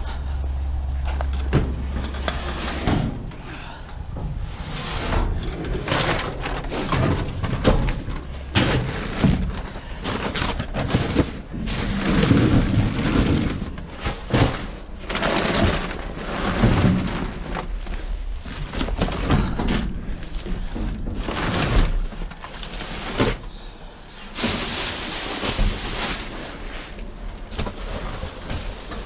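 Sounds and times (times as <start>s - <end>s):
low rumble: 0.0s - 29.0s
trash rustling and crinkling: 0.0s - 29.0s
knocks and crunches: 0.9s - 29.0s.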